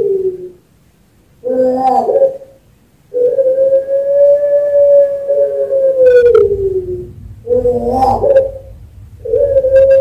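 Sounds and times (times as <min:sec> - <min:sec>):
dove cooing: 0:00.0 - 0:00.6, 0:01.4 - 0:10.0.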